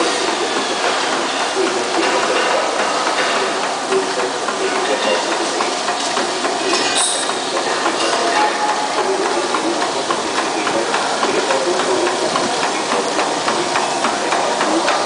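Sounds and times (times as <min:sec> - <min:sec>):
roller mill running: 0:00.0 - 0:15.0.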